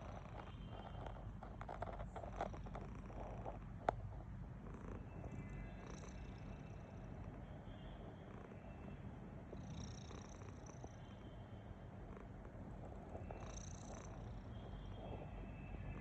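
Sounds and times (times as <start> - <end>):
cat snoring: 0.0 - 16.0.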